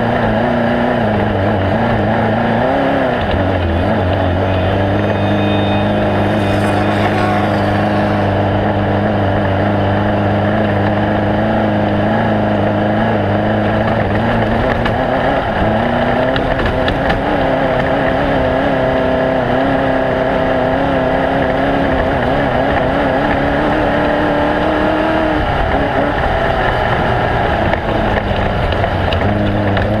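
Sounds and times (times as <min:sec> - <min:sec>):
engine revving high: 0:00.0 - 0:30.0.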